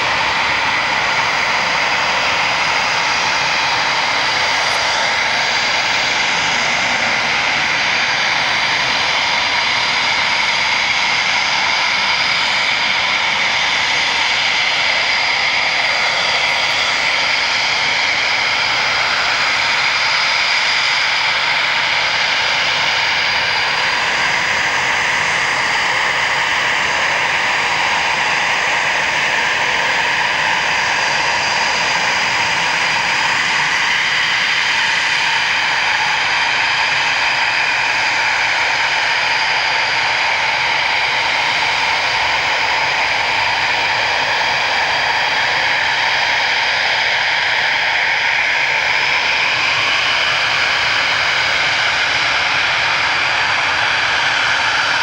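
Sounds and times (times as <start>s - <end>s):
jet engines running at low power: 0.0s - 55.0s.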